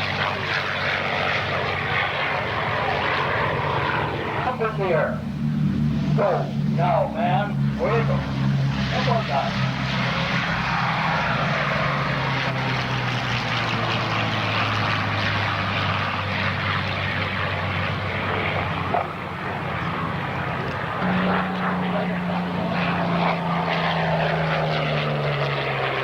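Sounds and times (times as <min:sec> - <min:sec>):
higher engine note: 0:00.0 - 0:26.0
propeller plane droning past: 0:00.0 - 0:26.0.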